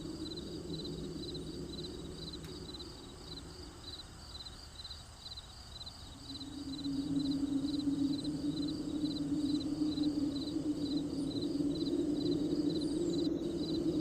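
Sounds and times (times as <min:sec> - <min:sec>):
crickets chirping: 0:00.0 - 0:14.0
low steady hum: 0:00.0 - 0:14.0.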